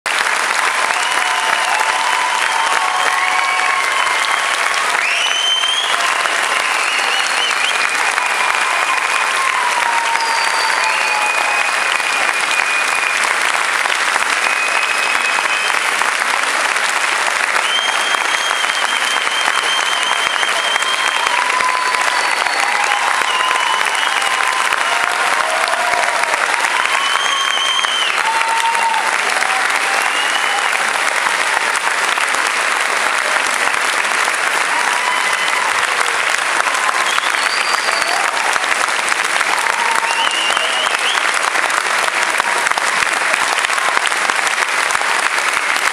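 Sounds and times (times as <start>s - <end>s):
audience clapping: 0.0s - 45.9s.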